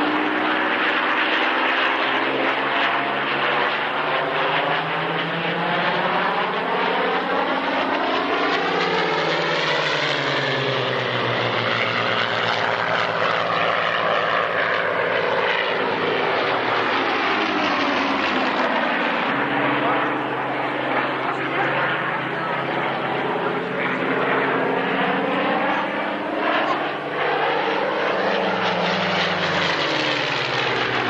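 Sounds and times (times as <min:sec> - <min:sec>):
propeller plane engine passing: 0:00.0 - 0:31.0.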